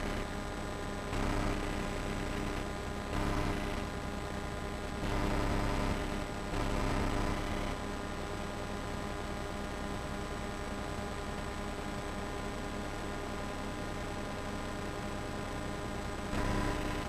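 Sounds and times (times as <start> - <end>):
steady hum of fixed tones: 0.0 - 17.0.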